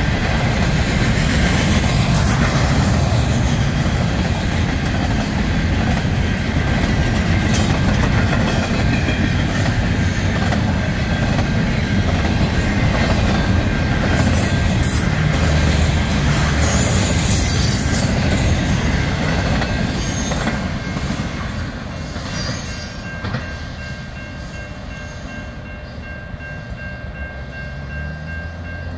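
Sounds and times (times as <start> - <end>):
freight train wheels rumbling: 0.0 - 28.9.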